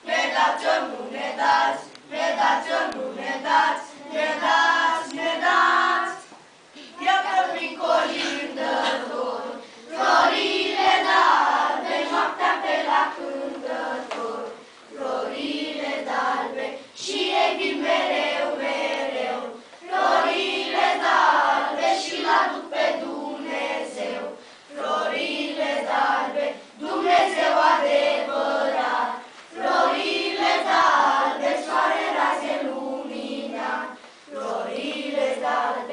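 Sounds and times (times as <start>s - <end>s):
children singing carol: 0.0s - 35.9s.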